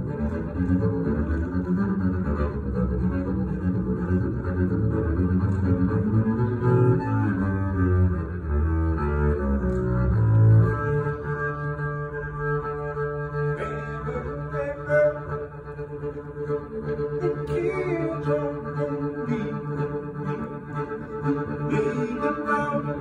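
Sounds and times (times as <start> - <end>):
bowed double bass: 0.0 - 23.0.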